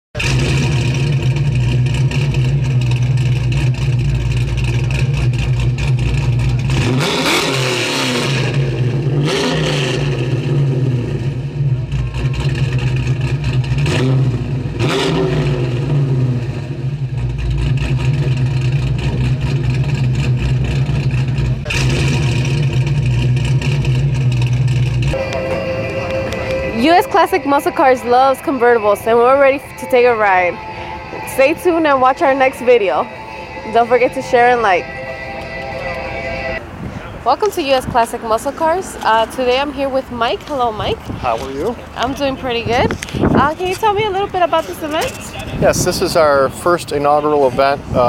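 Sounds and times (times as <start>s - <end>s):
car engine idling and revving: 0.1s - 48.0s.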